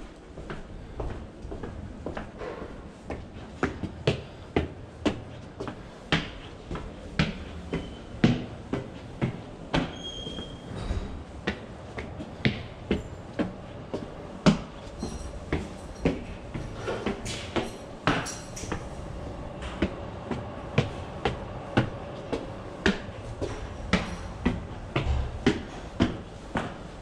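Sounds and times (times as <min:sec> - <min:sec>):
footsteps on tiled stairs: 0:00.0 - 0:27.0.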